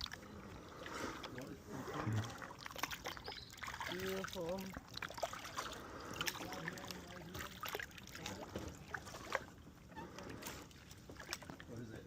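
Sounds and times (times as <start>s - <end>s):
paddle drips and splashes: 0.0s - 12.0s.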